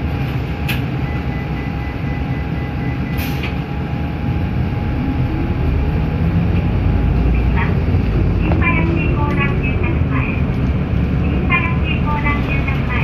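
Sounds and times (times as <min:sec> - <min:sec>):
bus engine running: 0:00.0 - 0:13.0
road rumble: 0:00.0 - 0:13.0.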